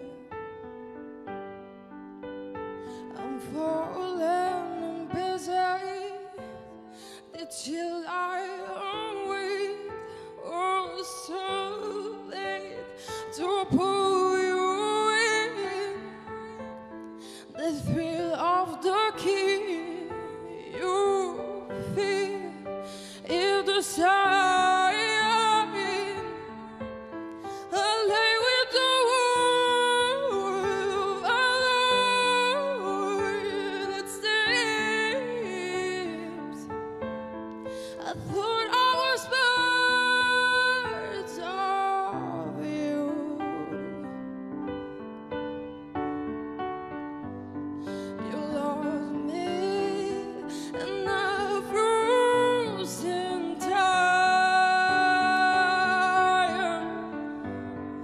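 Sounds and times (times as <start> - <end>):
woman singing a slow ballad: 2.8 - 44.9, 47.8 - 58.0.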